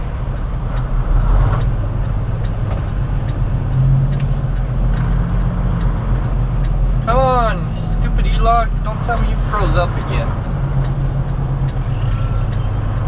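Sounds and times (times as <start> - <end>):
diesel engine humming: 0.0 - 13.0
faint light ticking: 0.1 - 13.0.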